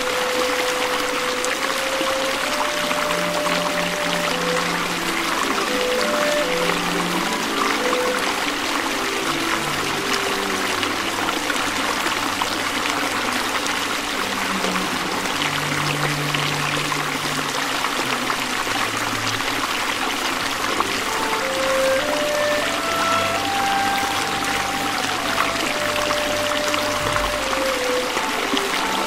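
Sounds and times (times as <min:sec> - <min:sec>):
slow background music: 0:00.0 - 0:29.0
stream rushing over rocks: 0:00.0 - 0:29.0.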